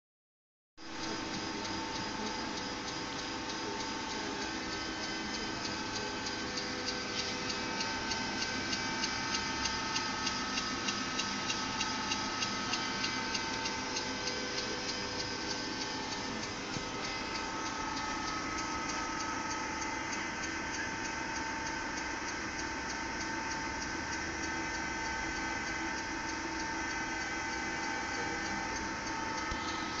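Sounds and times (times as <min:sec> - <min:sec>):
regular ticking clicks: 0:01.0 - 0:30.0.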